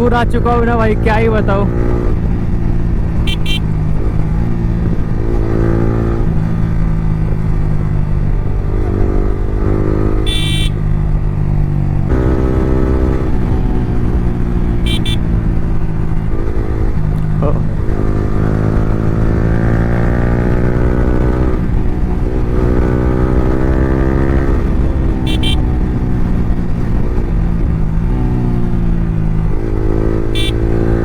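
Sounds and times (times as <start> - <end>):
motorcycle engine revving through gears: 0.0 - 31.0.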